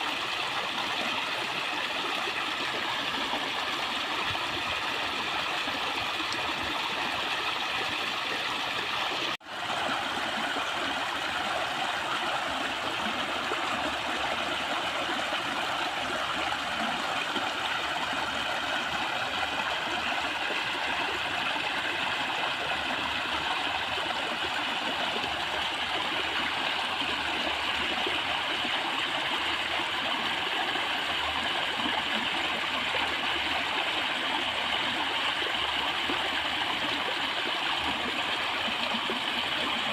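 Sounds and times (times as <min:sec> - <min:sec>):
rush of flowing water: 0:00.0 - 0:39.9.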